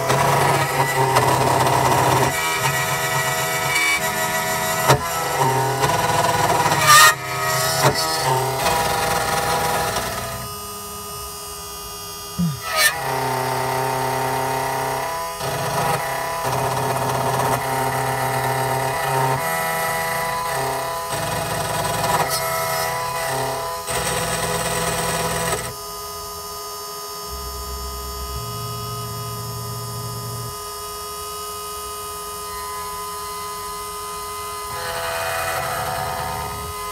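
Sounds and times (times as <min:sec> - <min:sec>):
key cutting machine motor whine: 0:00.0 - 0:36.9.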